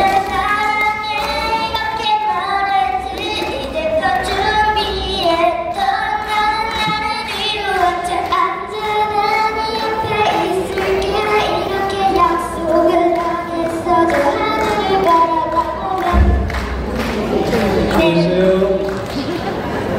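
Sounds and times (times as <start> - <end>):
girls singing into microphones: 0.0 - 18.6.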